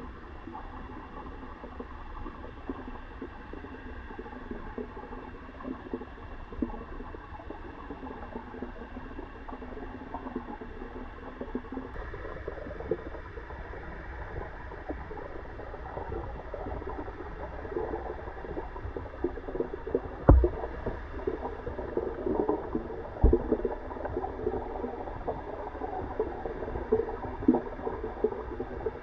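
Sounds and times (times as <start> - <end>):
water bubbling and gurgling: 0.0 - 29.0.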